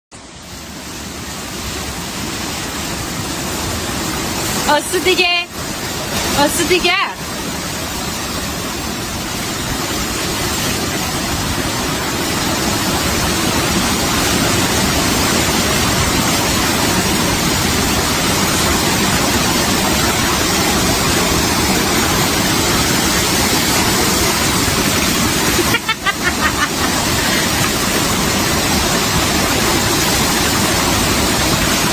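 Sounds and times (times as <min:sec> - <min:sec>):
river water rushing: 0:00.2 - 0:31.9.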